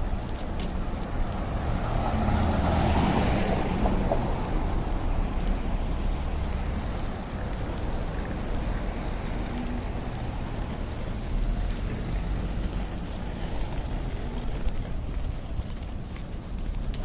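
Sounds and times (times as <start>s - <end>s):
city traffic rumble: 0.0s - 17.0s
vehicle passing close: 1.2s - 15.1s.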